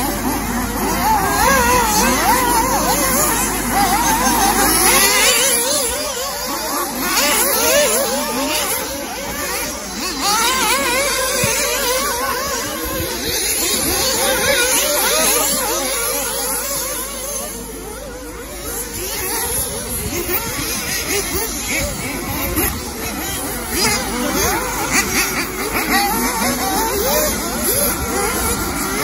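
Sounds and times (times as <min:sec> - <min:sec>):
small engines revving and whining: 0:00.0 - 0:29.0.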